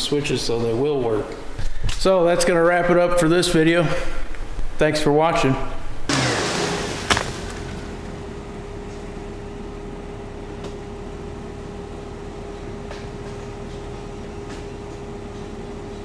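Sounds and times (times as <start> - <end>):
mechanical hum with tone: 0.0 - 16.0.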